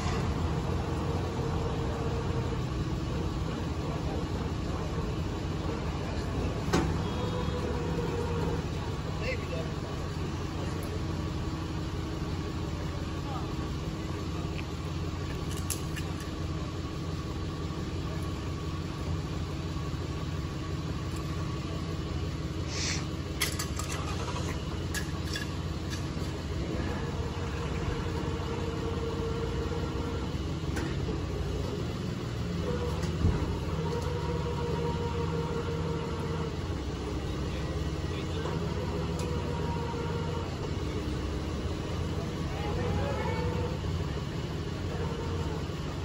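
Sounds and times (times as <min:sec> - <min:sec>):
vehicle engines idling: 0:00.0 - 0:46.0.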